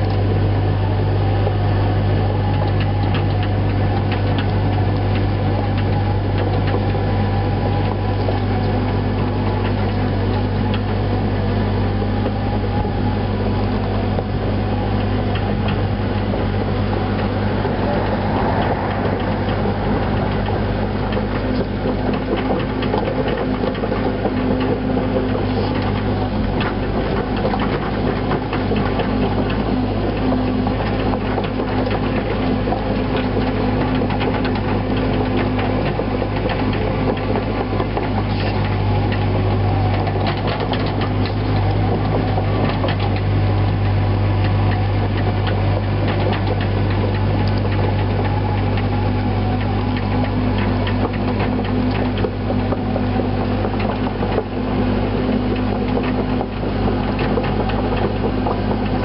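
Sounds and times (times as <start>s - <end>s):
excavator diesel engine running: 0.0s - 59.0s
tracks clicking and clanking: 0.0s - 59.0s.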